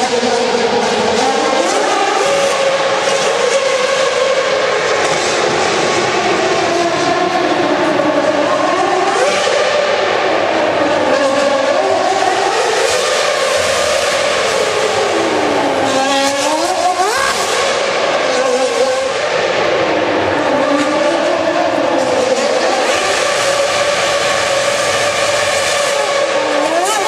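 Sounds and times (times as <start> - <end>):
racing car engine revving: 0.0 - 27.0.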